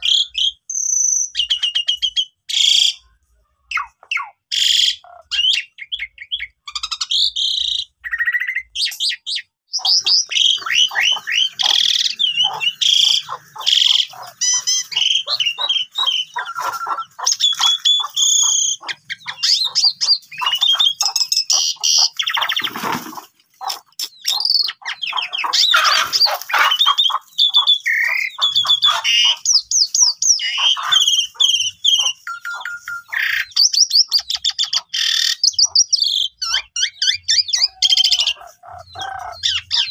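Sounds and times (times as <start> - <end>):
starling singing: 0.0 - 3.1, 3.7 - 39.9.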